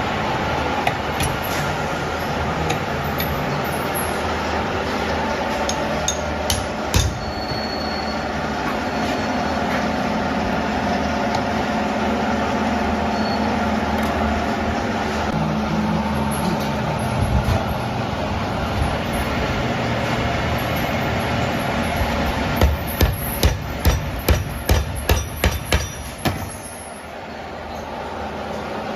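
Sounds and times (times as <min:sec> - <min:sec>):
machinery droning: 0:00.0 - 0:28.9.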